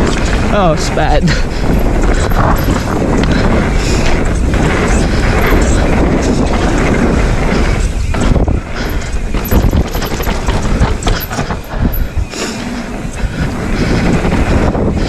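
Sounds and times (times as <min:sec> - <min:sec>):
bike rattling over bumps: 0:00.0 - 0:15.0
tyres rumbling over dirt: 0:00.0 - 0:15.0
wind buffeting microphone: 0:00.0 - 0:15.0.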